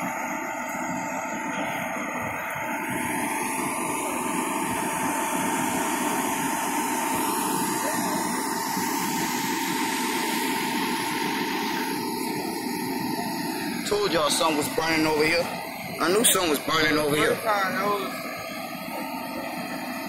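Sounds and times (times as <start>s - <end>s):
fire engine running: 0.0s - 20.0s.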